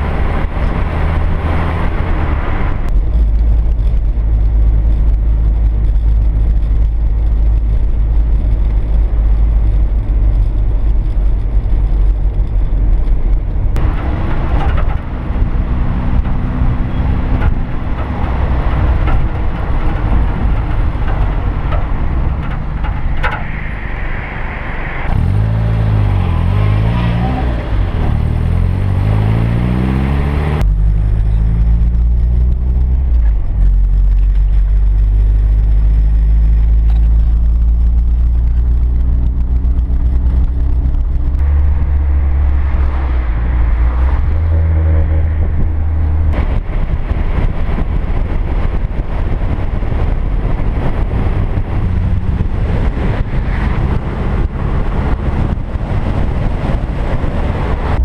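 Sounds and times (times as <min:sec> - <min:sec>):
car engine driving: 0:00.0 - 0:58.0
road and wind noise: 0:00.0 - 0:58.0.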